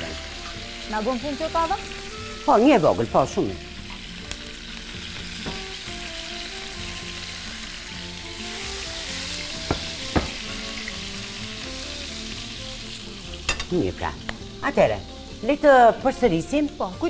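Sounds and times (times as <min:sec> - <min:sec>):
chicken sizzling in frying pan: 0:00.0 - 0:17.0.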